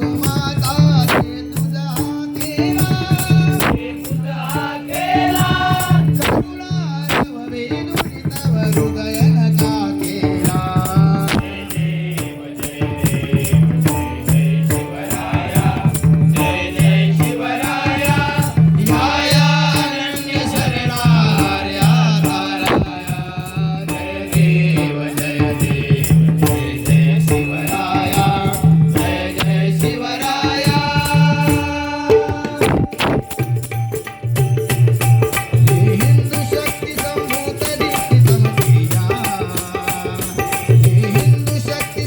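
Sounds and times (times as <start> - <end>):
devotional song by singer and chorus: 0.0 - 34.4, 35.3 - 42.0
hand drums beating: 0.0 - 42.0
small hand cymbals ticking: 0.0 - 42.0.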